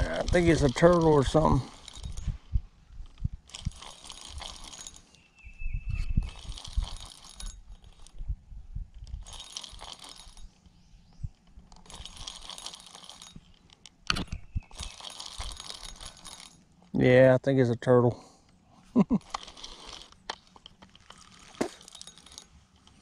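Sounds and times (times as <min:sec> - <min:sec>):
fishing reel whirring and rattling: 0:00.0 - 0:17.1, 0:19.2 - 0:23.0.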